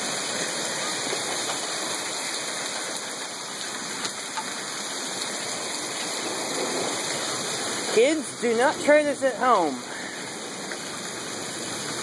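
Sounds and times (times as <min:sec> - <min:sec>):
hail and rain pelting: 0:00.0 - 0:12.0.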